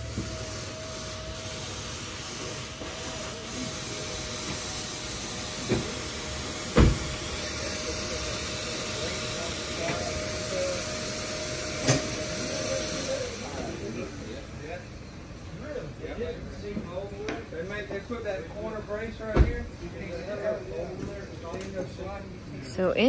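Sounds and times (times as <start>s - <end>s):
thin steady whine: 0.0s - 19.2s
mechanical hum and hiss: 0.0s - 23.0s.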